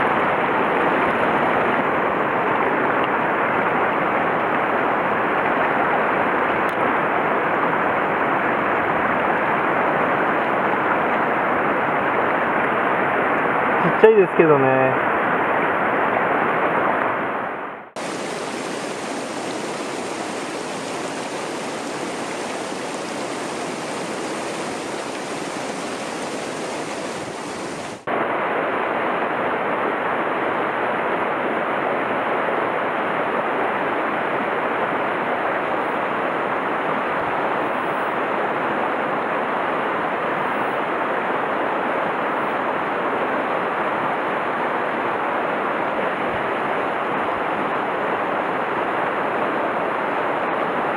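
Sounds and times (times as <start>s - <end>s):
mountain stream rushing over rapids: 0.0s - 50.9s.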